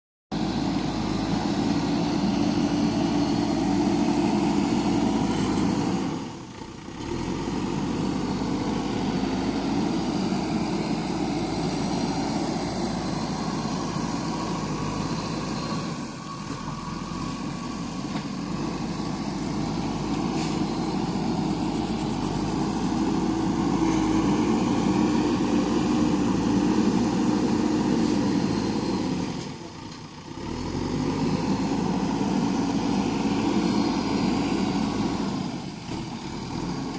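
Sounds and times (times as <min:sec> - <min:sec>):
diesel engine running: 0:00.3 - 0:36.9.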